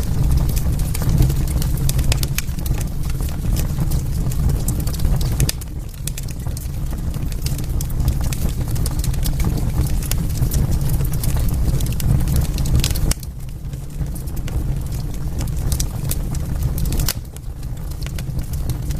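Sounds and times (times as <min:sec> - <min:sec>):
fire crackling and popping: 0:00.0 - 0:18.9
low rumble of flames: 0:00.0 - 0:18.9.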